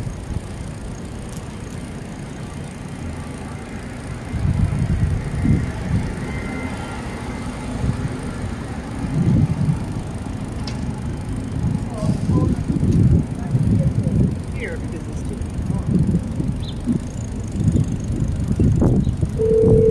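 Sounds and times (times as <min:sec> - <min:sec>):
bicycle rolling rumble on concrete: 0:00.0 - 0:19.9.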